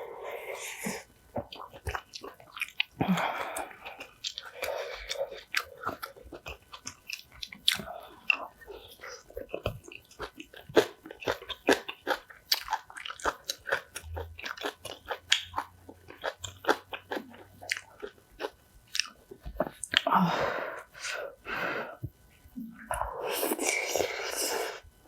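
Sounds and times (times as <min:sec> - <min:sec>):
chewing and crunching food: 0:00.0 - 0:20.2.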